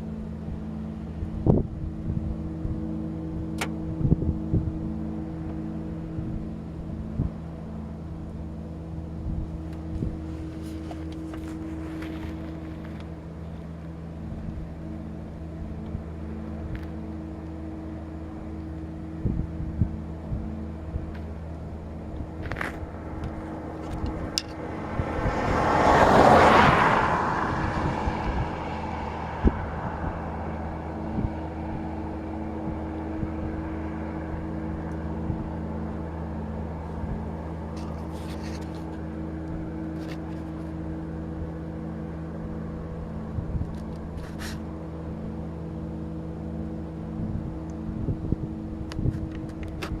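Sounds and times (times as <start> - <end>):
machine droning hum: 0.0 - 50.0.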